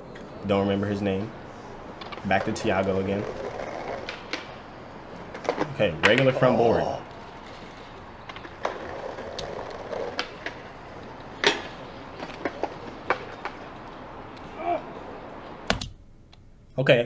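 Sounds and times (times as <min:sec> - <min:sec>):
skateboard wheels rolling on concrete: 0:00.0 - 0:15.8
skateboard crack: 0:01.9 - 0:15.7.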